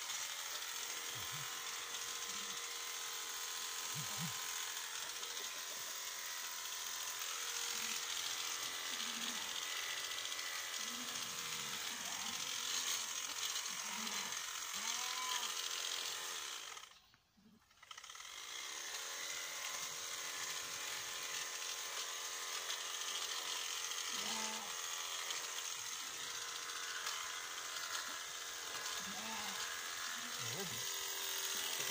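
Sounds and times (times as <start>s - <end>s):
electric clipper running: 0.0s - 31.9s.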